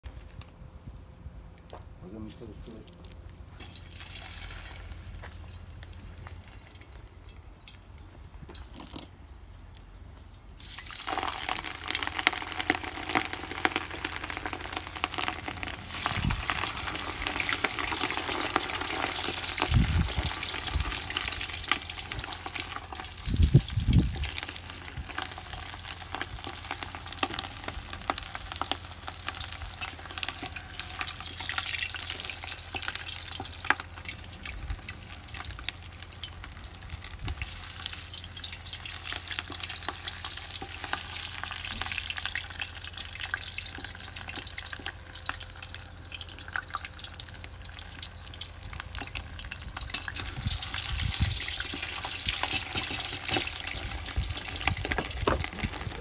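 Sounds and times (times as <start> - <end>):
stew sizzling: 10.6 - 56.0.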